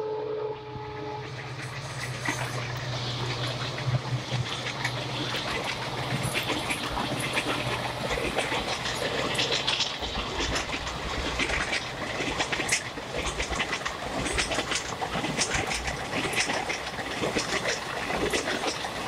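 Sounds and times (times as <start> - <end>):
train rolling rumble: 0.0 - 19.0
train wheels clicking over rail joints: 1.0 - 19.0.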